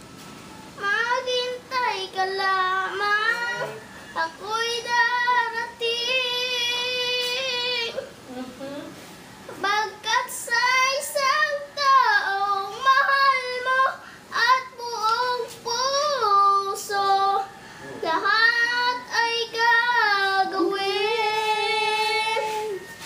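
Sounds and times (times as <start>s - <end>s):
boy singing: 0.8s - 8.0s, 9.6s - 22.8s.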